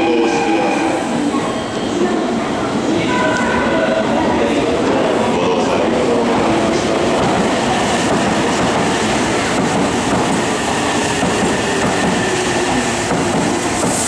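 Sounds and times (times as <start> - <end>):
electric train passing on rails: 0.0 - 14.0.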